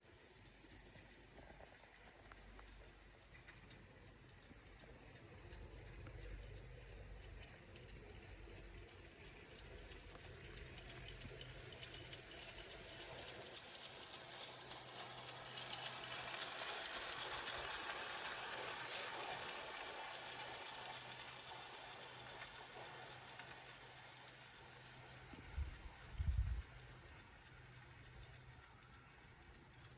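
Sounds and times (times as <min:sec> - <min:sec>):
wheels clicking on track: 0:00.0 - 0:29.9
model train motor whirring: 0:00.1 - 0:29.9.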